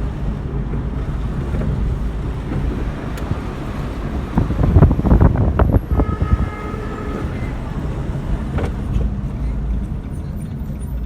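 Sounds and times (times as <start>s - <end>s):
wind buffeting microphone: 0.0s - 9.9s
car driving rumble: 0.0s - 11.0s.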